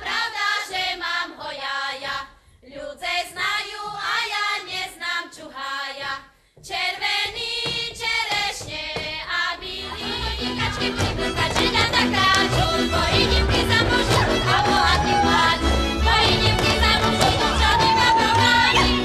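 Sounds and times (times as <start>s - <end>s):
women singing folk song: 0.0s - 19.0s.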